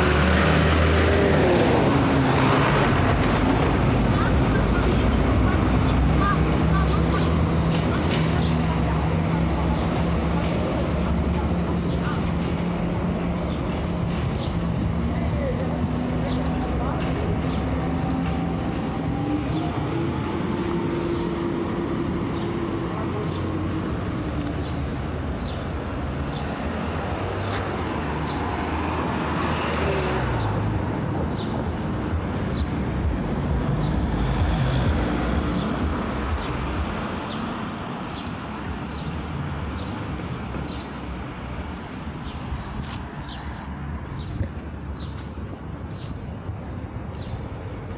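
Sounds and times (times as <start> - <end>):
cars driving by: 0.0 - 47.9.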